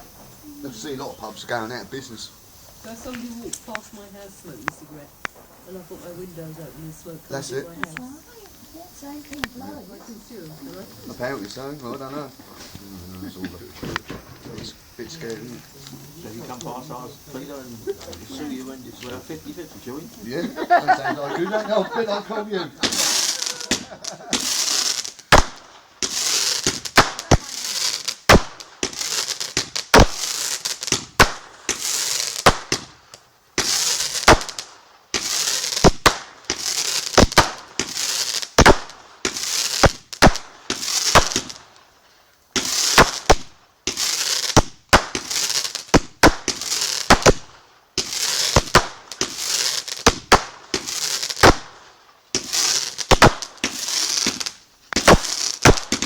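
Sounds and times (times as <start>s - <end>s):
fireworks bangs: 0.0s - 56.0s
fireworks hissing crackle: 0.0s - 56.0s.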